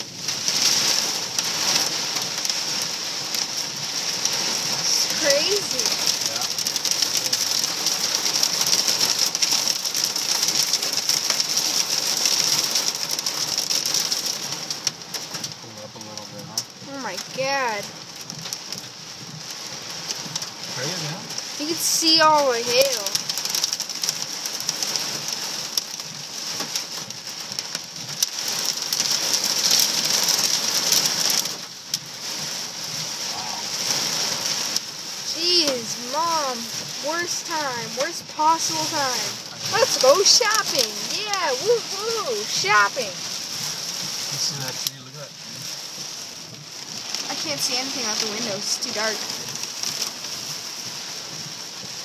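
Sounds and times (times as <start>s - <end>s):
hail and rain on vehicle roof: 0.0s - 52.0s.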